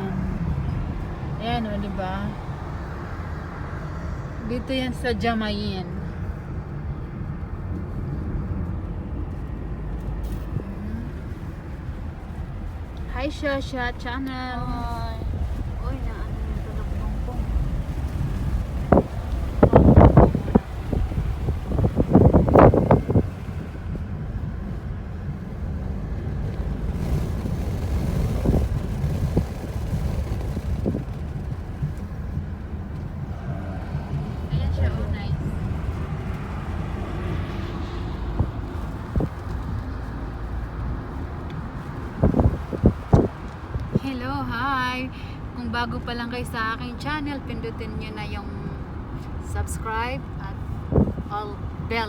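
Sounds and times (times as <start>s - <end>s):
road and engine rumble in car: 0.0s - 52.0s
wind noise: 0.0s - 52.0s.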